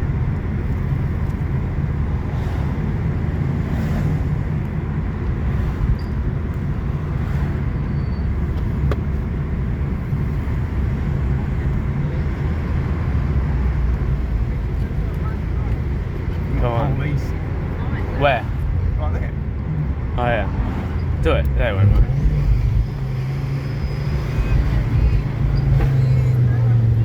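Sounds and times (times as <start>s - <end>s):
car engines rumbling: 0.0s - 27.0s.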